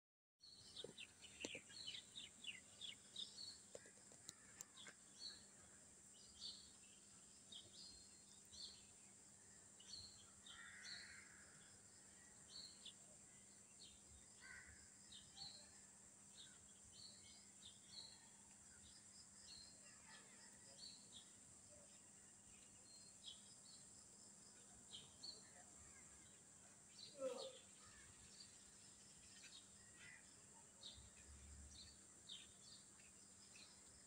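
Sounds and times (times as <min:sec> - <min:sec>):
faint birds chirping: 0:00.4 - 0:34.0.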